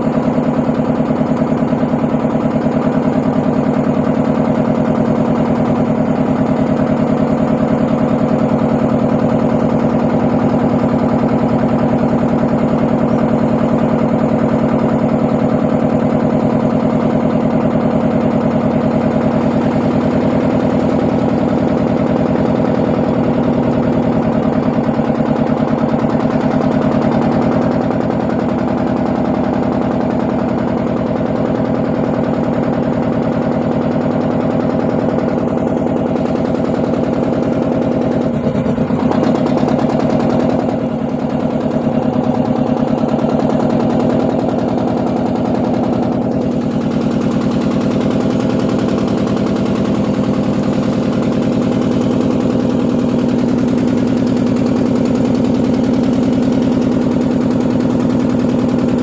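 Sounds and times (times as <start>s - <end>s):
motor boat engine running: 0.0s - 59.0s.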